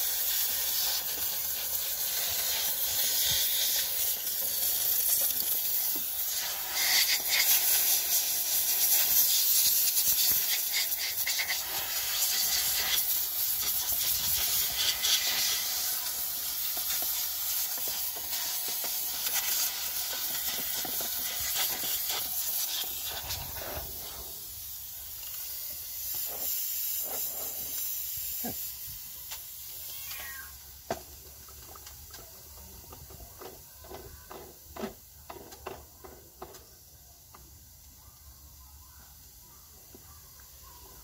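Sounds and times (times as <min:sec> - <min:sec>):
steam cleaner hissing: 0:00.0 - 0:37.8.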